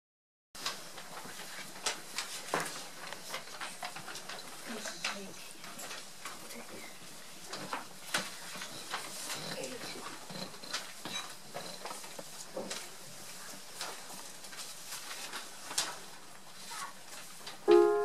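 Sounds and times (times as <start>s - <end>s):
soft rustles and shuffles: 0.6s - 17.6s.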